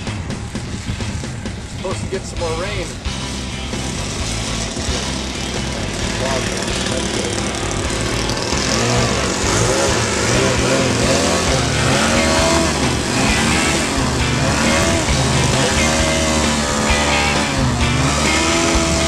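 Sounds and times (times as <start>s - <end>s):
model airplane engine revving: 0.0s - 19.0s
rock music: 0.0s - 19.0s.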